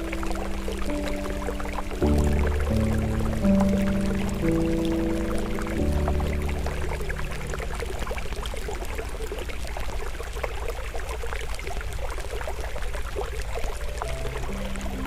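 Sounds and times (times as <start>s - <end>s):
soft sustained music tones: 0.0s - 10.9s, 12.0s - 15.0s
flowing stream: 0.0s - 15.0s.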